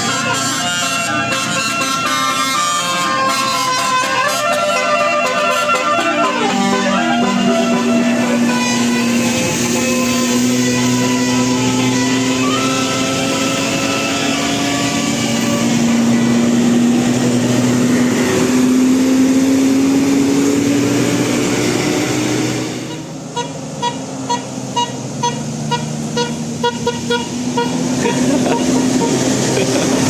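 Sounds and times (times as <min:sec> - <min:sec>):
musical horn tones: 0:00.0 - 0:18.9, 0:20.4 - 0:29.6
road noise: 0:00.0 - 0:30.0.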